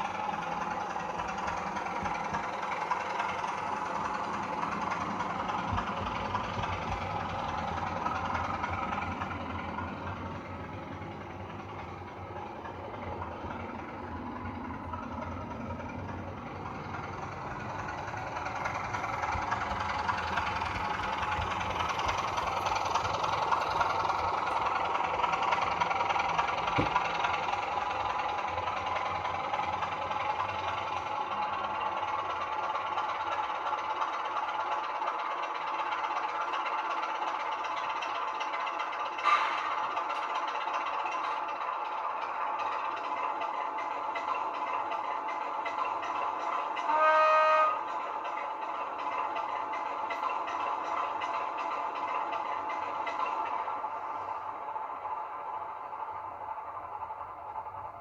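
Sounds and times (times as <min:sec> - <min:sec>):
model diesel engine sound from speaker: 0:00.0 - 0:58.0.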